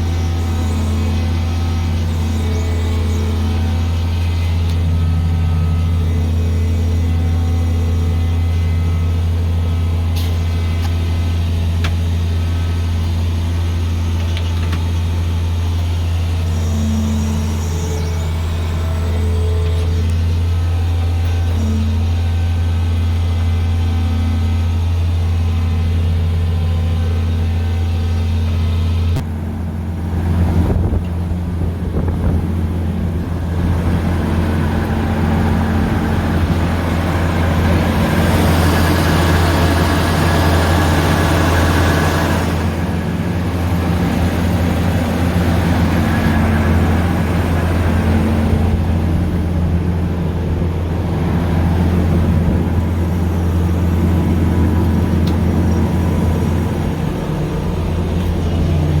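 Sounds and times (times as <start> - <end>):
machinery engine humming: 0.0 - 59.0
rushing mechanical noise: 0.0 - 59.0.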